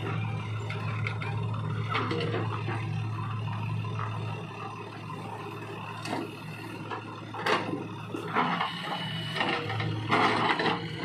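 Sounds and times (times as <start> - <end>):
backhoe diesel engine running: 0.0 - 11.0.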